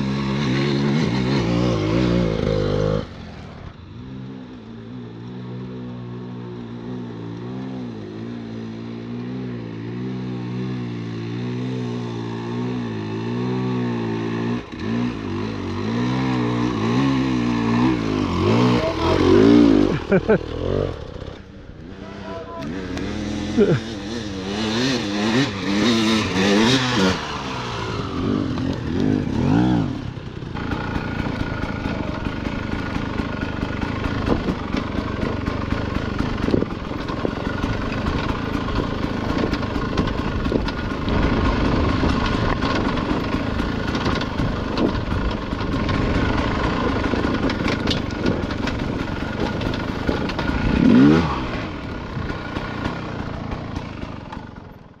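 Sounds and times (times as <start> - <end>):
dirt bike engine revving: 0.0 - 55.0
dirt bike engine running: 0.0 - 55.0.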